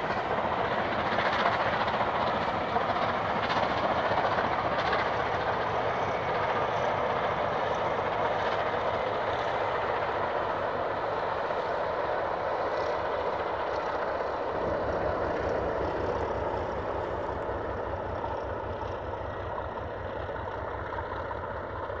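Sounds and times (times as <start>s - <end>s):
distant steam train rumble: 0.0s - 22.0s
low engine hum: 0.0s - 22.0s.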